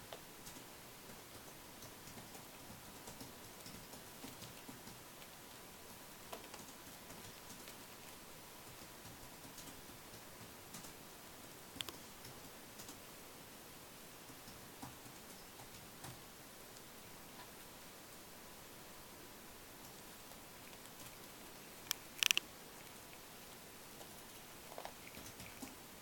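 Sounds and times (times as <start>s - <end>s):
steady hiss: 0.0s - 26.0s
faint clicks and taps: 0.1s - 11.0s, 11.7s - 13.0s, 14.2s - 17.6s, 19.8s - 25.8s.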